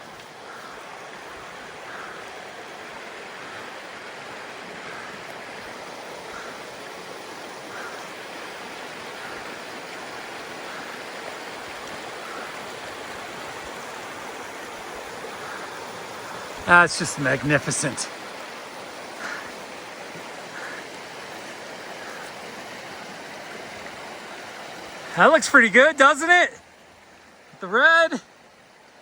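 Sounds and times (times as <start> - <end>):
creek rushing: 0.0 - 29.0.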